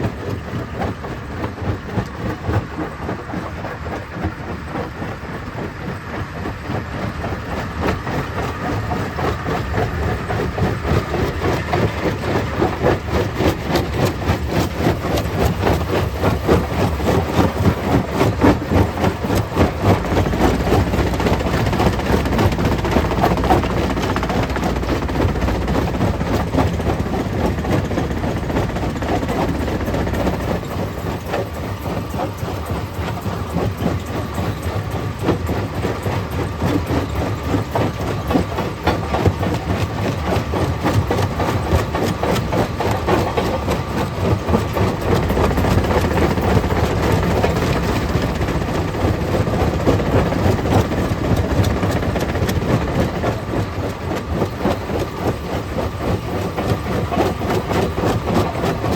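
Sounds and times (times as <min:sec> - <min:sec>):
low machinery rumble: 0:00.0 - 0:58.9.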